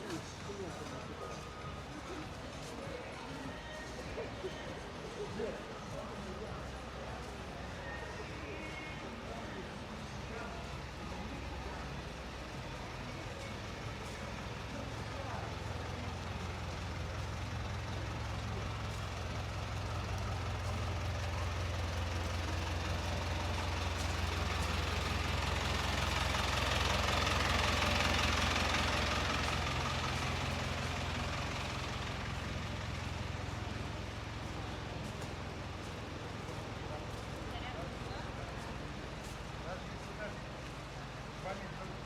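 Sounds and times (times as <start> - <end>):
heavy vehicle engine rumbling: 0.0 - 42.0.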